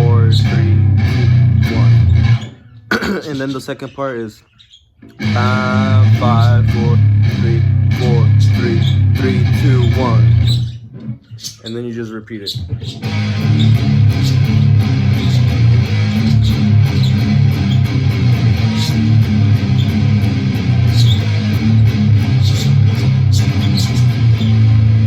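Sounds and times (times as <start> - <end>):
electric guitar palm-muted riff: 0.0 - 3.0, 5.0 - 11.4, 12.6 - 25.0.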